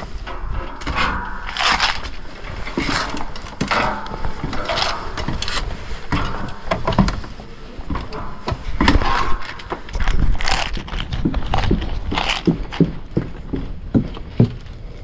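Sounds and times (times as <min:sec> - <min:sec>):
knocks and clatter: 0:00.0 - 0:15.0
rustling: 0:00.0 - 0:15.0.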